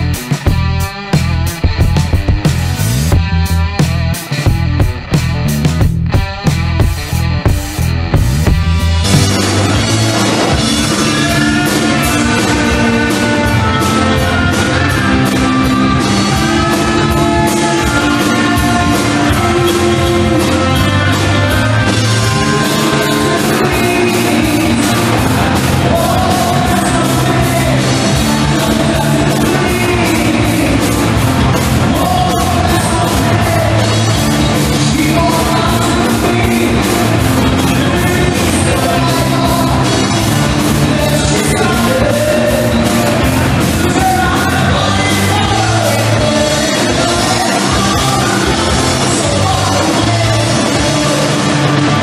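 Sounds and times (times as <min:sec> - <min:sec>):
live rock band playing: 0:00.0 - 0:52.0
person singing: 0:06.1 - 0:52.0.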